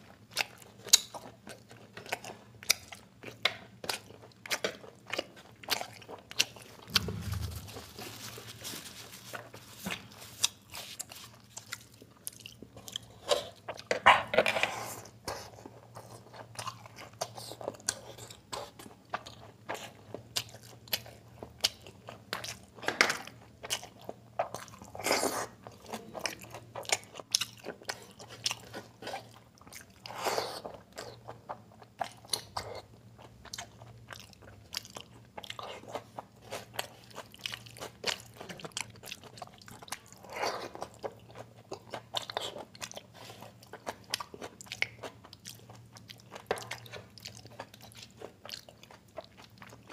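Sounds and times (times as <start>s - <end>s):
wet chewing and smacking: 0.1s - 7.8s, 9.4s - 14.0s, 15.5s - 49.9s.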